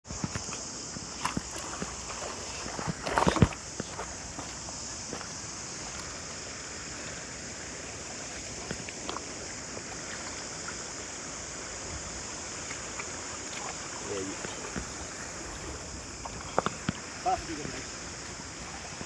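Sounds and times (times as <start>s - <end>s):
stream water flowing: 0.1s - 19.0s.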